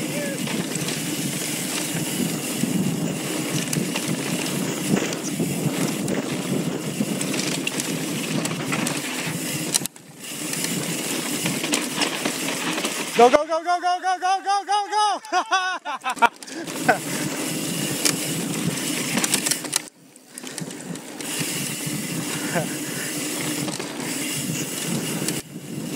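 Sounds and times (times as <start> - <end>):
wind and tyre noise: 0.0 - 13.6, 16.0 - 25.9
bike clicks and rattles: 0.0 - 13.7, 15.0 - 25.9.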